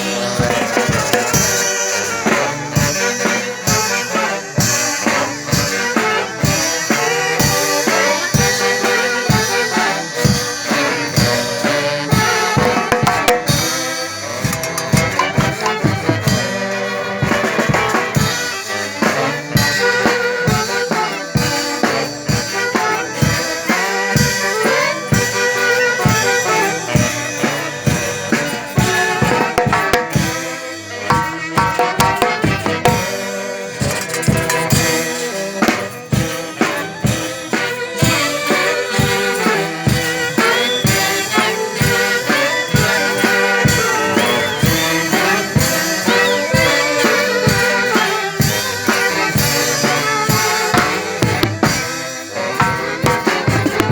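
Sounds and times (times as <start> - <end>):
band music: 0.0 - 53.9
drum kit beat: 0.0 - 53.9
horn melody: 0.0 - 53.9.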